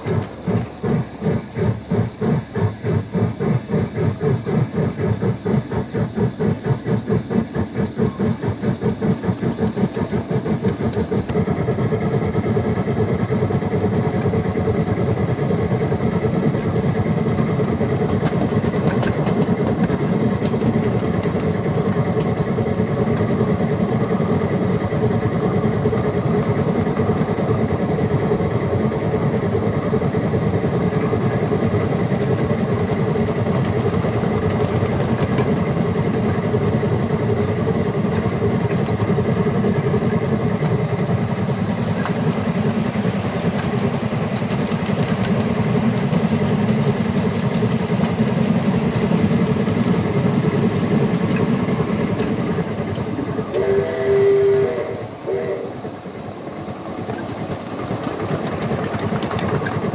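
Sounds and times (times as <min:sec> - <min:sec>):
faint steady hum: 0:00.0 - 0:59.9
miniature locomotive rolling on rails: 0:00.0 - 0:59.9.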